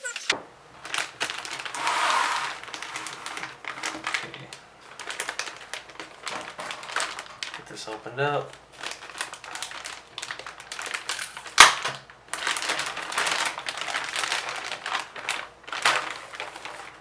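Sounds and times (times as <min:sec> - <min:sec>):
packaging crinkling and rustling: 0:00.7 - 0:17.0.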